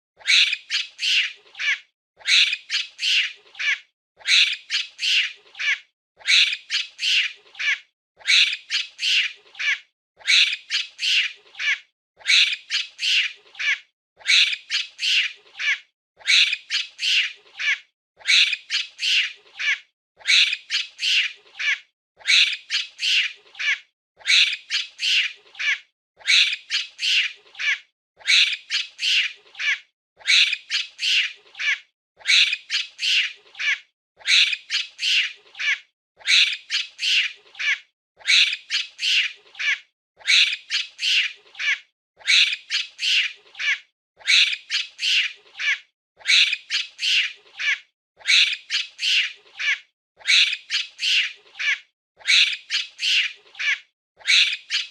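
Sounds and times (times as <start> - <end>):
monkey squawking: 0.2 - 54.9.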